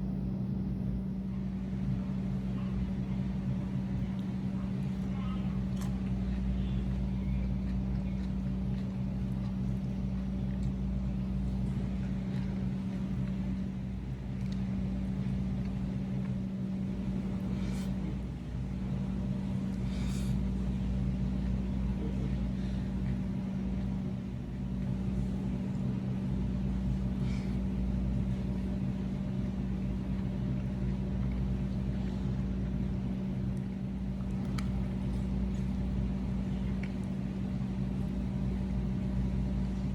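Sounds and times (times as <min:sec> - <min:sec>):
mechanical hum with low rumble: 0:00.0 - 0:39.9.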